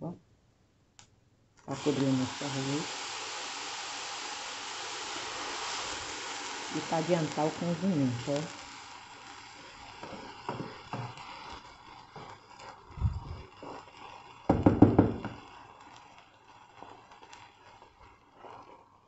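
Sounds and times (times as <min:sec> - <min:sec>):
wooden spoon stirring rice in pan: 0:01.7 - 0:19.0.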